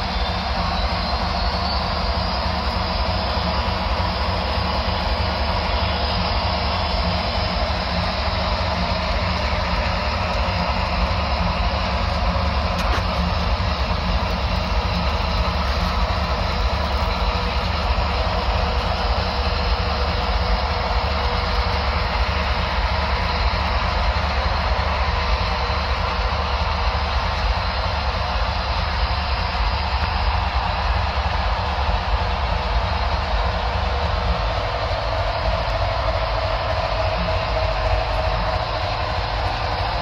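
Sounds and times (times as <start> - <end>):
low hum: 0.0 - 40.0
model train motors whirring: 0.0 - 40.0.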